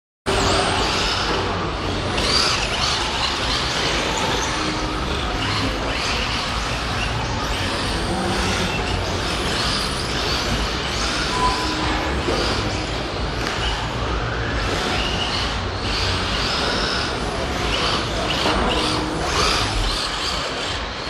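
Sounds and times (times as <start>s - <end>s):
rc cars electric motors whining: 0.3s - 21.0s.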